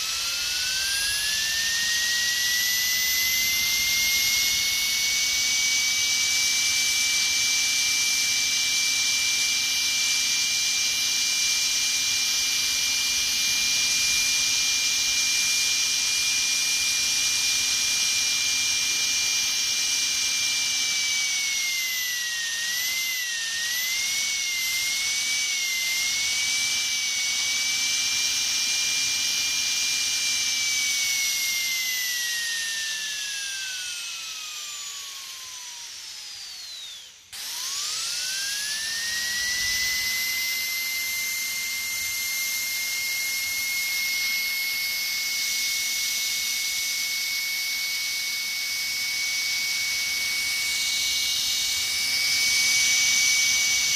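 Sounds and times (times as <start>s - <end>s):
dentist's drill whining: 0.0s - 53.9s.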